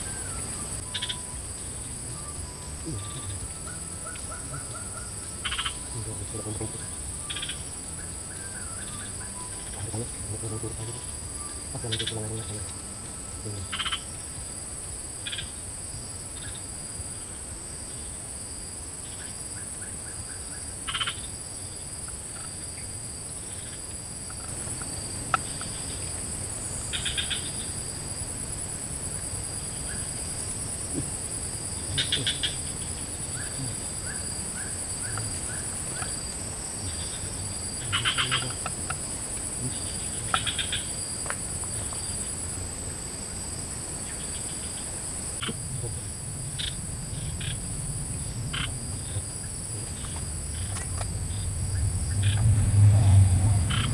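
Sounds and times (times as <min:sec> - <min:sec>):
frogs rattling calls: 0:00.0 - 0:18.2, 0:19.0 - 0:53.9
insects buzzing: 0:00.0 - 0:53.9.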